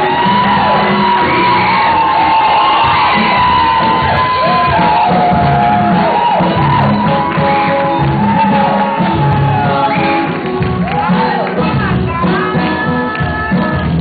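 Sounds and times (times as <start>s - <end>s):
steady beat: 0.0s - 12.9s
praise music: 0.0s - 14.0s.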